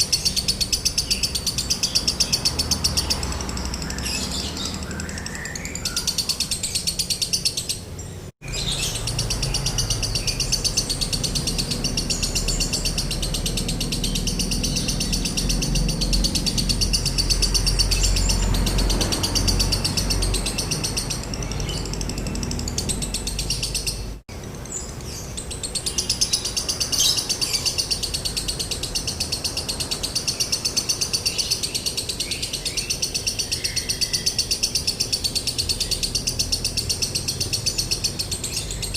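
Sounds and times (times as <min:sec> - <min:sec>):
lovebird chattering trill: 0:00.0 - 0:24.2, 0:24.8 - 0:38.9.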